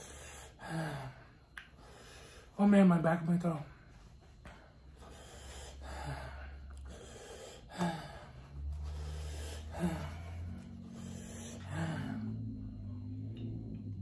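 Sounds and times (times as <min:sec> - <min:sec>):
man breathing hard: 0:00.0 - 0:02.6, 0:03.9 - 0:12.9.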